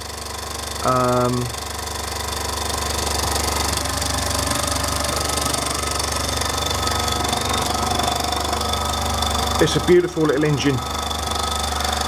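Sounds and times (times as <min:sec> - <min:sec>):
model steam engine running: 0:00.0 - 0:12.0.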